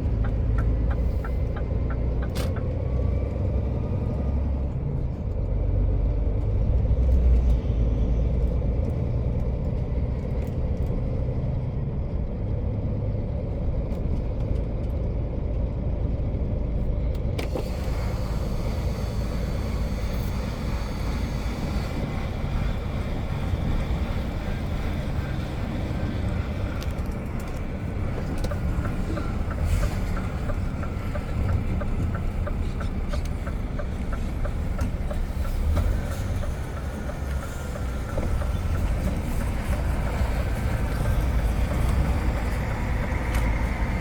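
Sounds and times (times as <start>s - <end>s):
truck diesel engine and road rumble: 0.0s - 44.0s.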